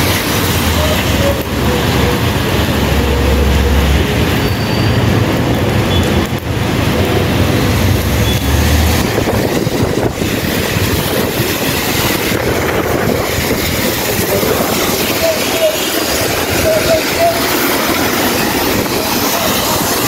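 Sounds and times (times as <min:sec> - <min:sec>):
low rumble of engines: 0:00.0 - 0:20.0
tyres hissing on wet road: 0:00.0 - 0:20.0.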